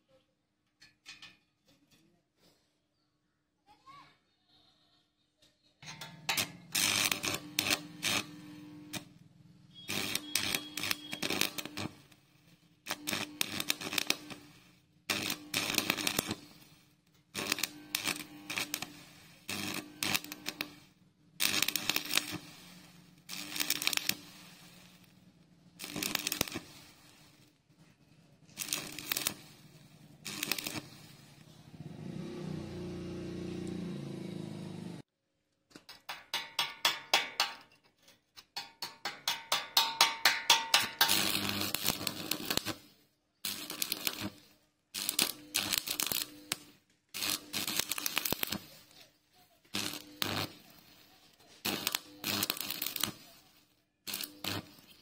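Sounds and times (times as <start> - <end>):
welding arc crackling and sizzling: 5.8 - 35.0, 39.1 - 55.0.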